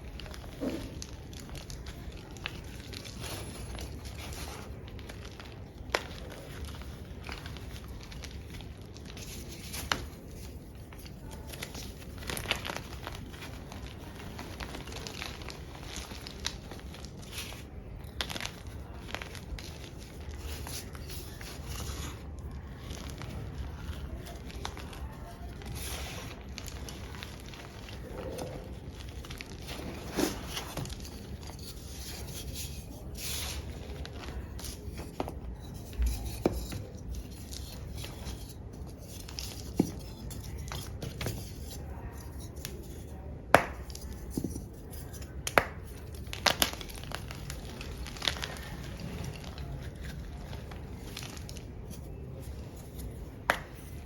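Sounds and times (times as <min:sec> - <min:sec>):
chalk crunching and crumbling: 0:00.0 - 0:54.0.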